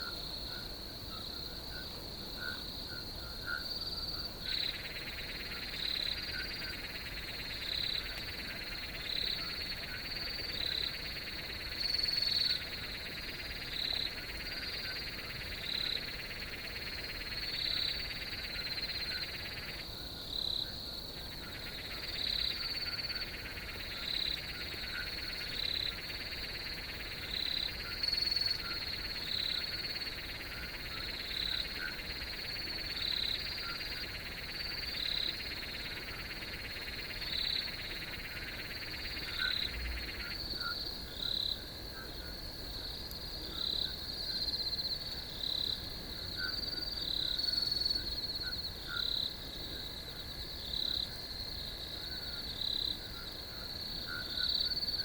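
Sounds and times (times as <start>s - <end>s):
cricket chirps: 0.0s - 55.0s
crickets trilling: 0.0s - 55.0s.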